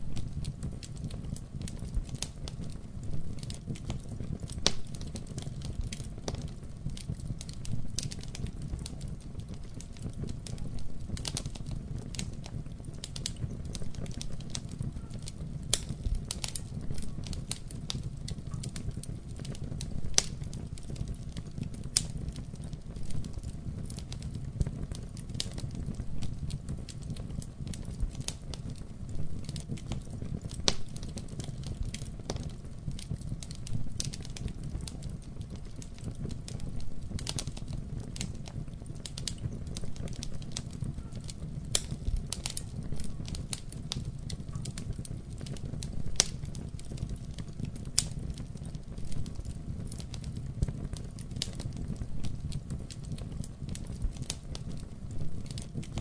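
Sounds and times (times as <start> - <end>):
fire rumbling: 0.0 - 56.0
logs popping and crackling: 0.0 - 56.0.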